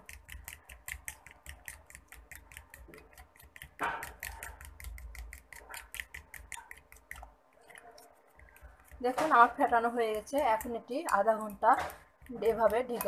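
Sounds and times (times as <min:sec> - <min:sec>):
fork beating egg in glass bowl: 0:00.0 - 0:13.0.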